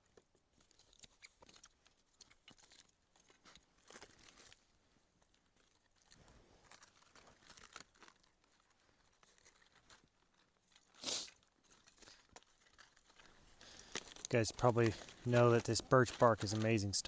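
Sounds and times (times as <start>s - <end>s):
bark crinkling and tearing: 0.1s - 17.0s.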